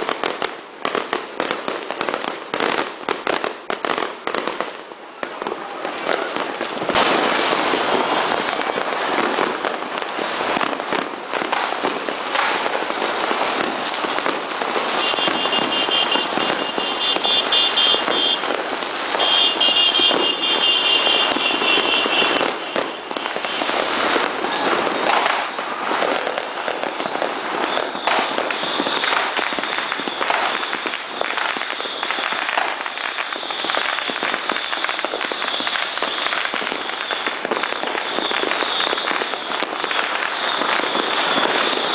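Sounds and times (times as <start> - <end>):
fireworks crackling and banging: 0.0 - 41.9.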